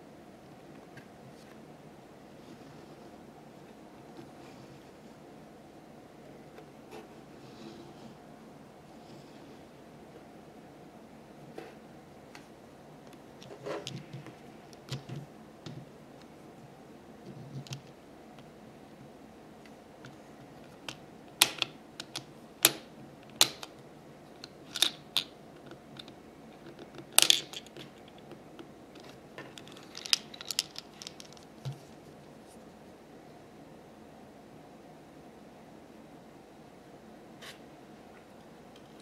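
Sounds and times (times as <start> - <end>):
faint background hiss: 0.0 - 39.0.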